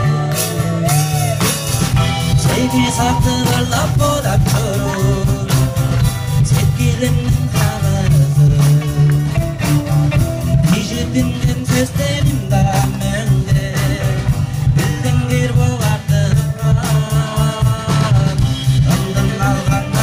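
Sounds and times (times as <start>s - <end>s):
guitar: 0.0s - 20.0s
person singing: 0.0s - 20.0s
song with steady beat: 0.0s - 20.0s.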